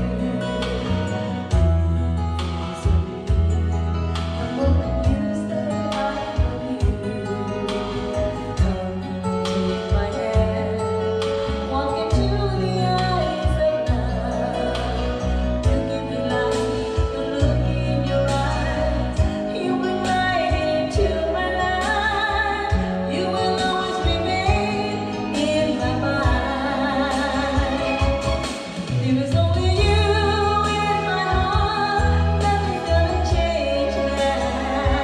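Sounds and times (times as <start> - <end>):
backing music with heavy bass: 0.0 - 35.0
person singing with vibrato: 0.0 - 35.0.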